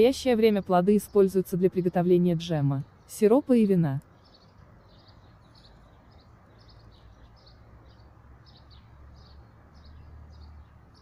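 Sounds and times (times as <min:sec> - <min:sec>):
small bird chirping: 0:01.0 - 0:11.0.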